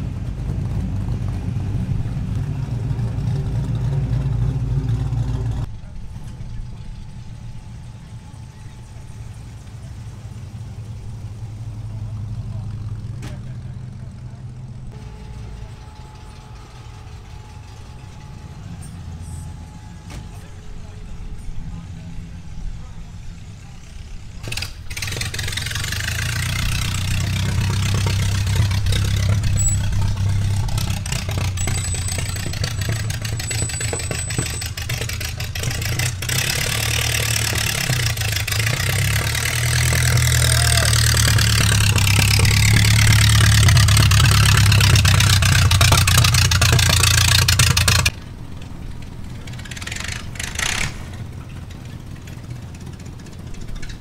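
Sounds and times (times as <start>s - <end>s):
car engines rumbling past: 0.0s - 54.0s.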